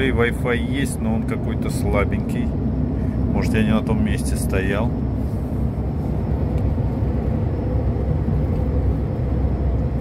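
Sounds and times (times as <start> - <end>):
truck engine and tyre rumble: 0.0 - 10.0.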